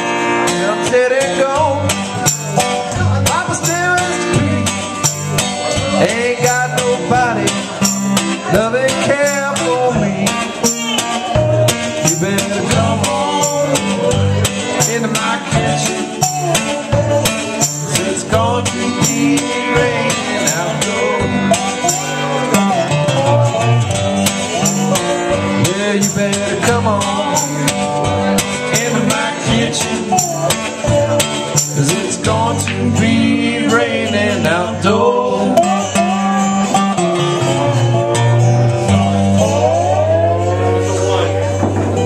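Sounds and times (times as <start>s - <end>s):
acoustic guitars playing blues: 0.0s - 42.0s.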